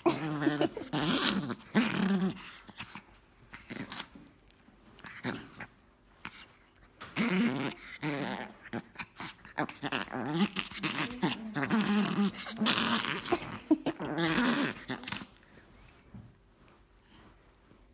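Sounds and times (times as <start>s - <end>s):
dog growling in play: 0.0s - 4.2s, 5.0s - 15.5s.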